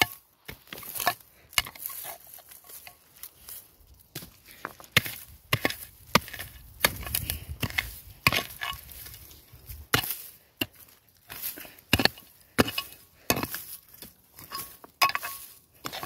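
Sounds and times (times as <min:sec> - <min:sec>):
pick-mattock chopping stony soil: 0:00.0 - 0:16.0.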